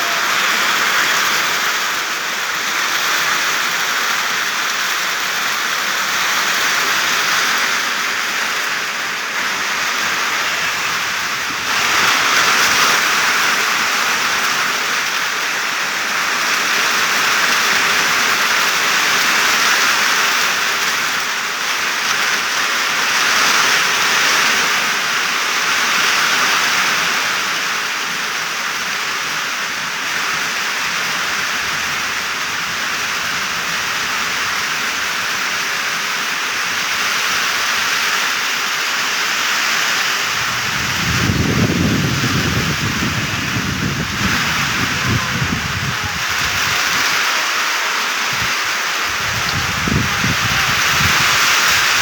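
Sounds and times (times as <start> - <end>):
rain falling on leaves: 0.0 - 52.0.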